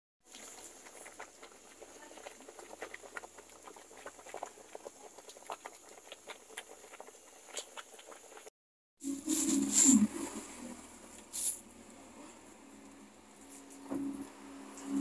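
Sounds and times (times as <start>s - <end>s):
water boiling and bubbling: 0.2s - 15.0s.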